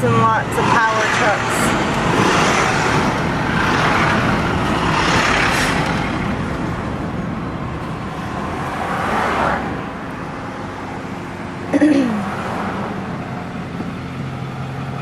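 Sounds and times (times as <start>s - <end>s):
moving car road noise: 0.0s - 15.0s.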